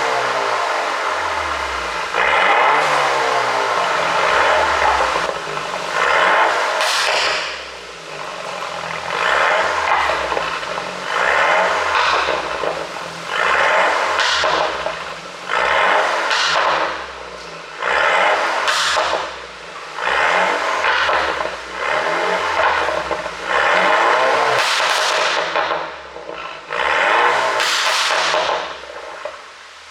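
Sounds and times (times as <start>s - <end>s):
car engine revving: 0.0s - 29.9s
exhaust pops and crackles: 0.0s - 29.9s.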